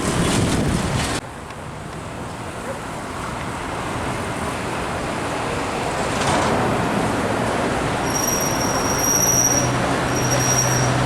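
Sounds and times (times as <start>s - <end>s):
highway traffic roar: 0.0s - 11.0s.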